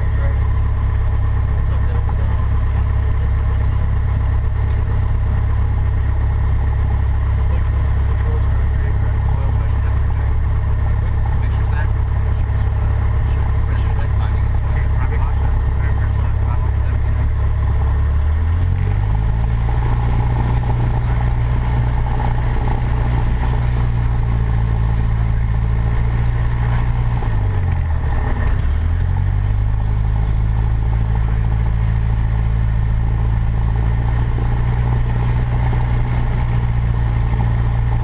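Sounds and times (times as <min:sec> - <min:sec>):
light aircraft engine running: 0:00.0 - 0:38.0.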